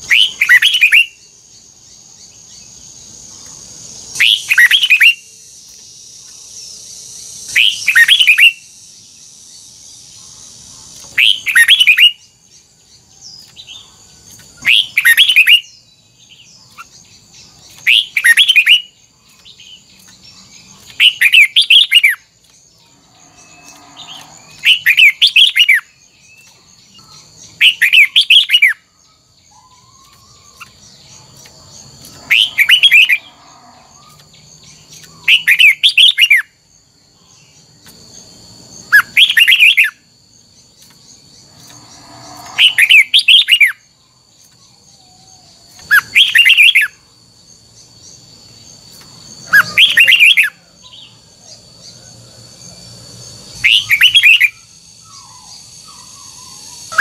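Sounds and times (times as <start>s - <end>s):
bird singing warbled phrases: 0.0s - 52.8s, 53.4s - 57.0s.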